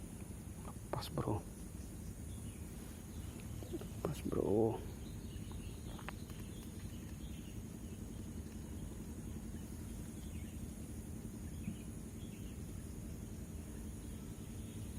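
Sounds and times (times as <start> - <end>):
faint bird chirps: 0.0 - 14.9
insect drone: 0.0 - 14.9
low background noise: 0.0 - 14.9.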